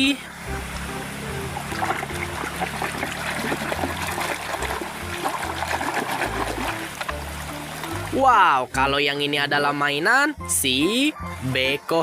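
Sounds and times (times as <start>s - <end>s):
water splashing and trickling: 0.0s - 10.2s
background music with bass line: 0.0s - 12.0s.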